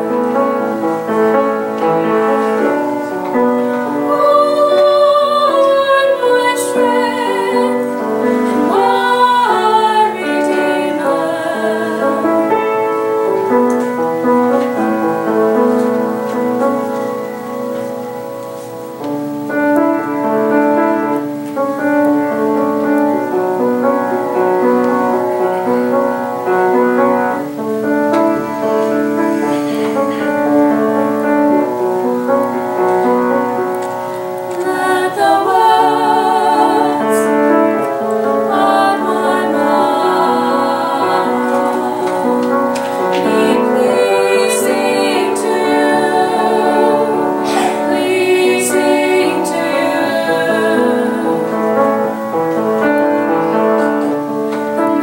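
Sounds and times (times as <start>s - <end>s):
women singing together with vibrato: 0.0s - 17.4s, 24.2s - 55.0s
piano playing: 0.0s - 55.0s.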